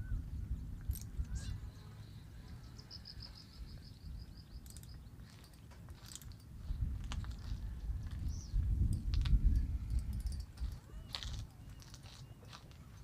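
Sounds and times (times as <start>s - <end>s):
wind on microphone: 0.0s - 5.4s, 6.0s - 13.0s
bird chirping and trilling: 0.0s - 5.6s, 7.4s - 8.7s, 9.4s - 13.0s.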